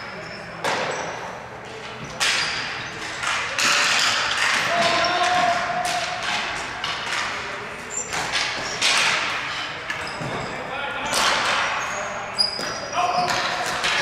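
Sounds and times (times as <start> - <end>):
hockey sticks and ball knocking: 0.6 - 14.0.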